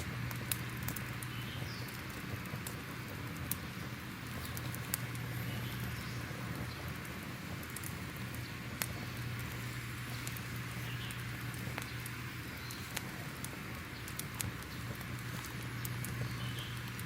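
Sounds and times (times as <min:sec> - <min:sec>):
fire crackling with pops: 0:00.0 - 0:17.0
low steady hum: 0:00.0 - 0:17.0.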